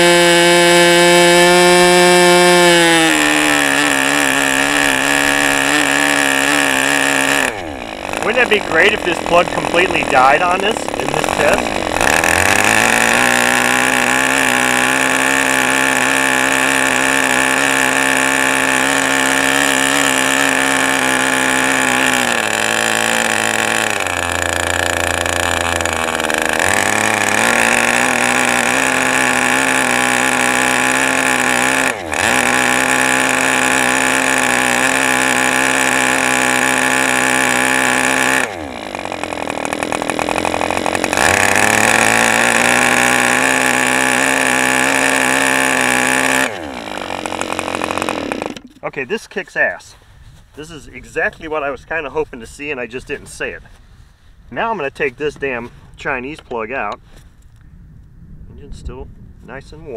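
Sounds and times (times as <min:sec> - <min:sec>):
model airplane engine running: 0:00.0 - 0:48.8.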